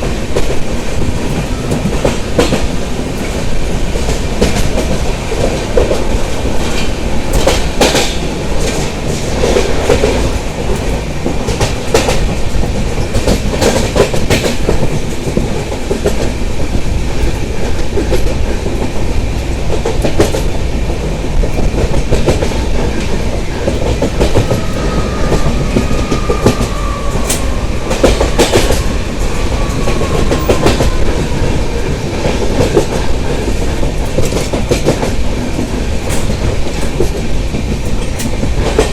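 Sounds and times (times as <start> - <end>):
heavy train rumble: 0.0 - 38.9
wheels clacking over rail joints: 0.0 - 38.9.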